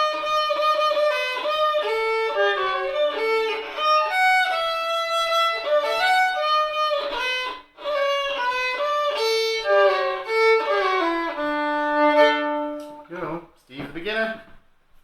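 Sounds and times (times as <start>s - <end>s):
solo fiddle tune: 0.0s - 13.1s.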